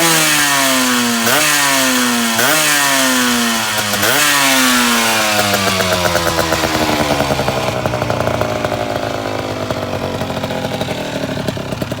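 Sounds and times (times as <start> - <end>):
two-stroke motorcycle engine revs falling: 0.0 - 12.0.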